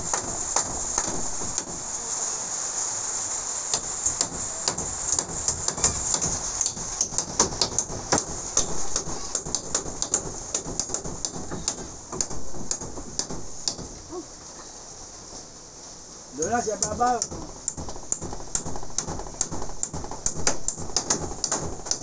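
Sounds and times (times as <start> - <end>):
sharp raindrop hits: 0.0 - 14.2, 16.4 - 22.0
rain falling: 0.0 - 22.0.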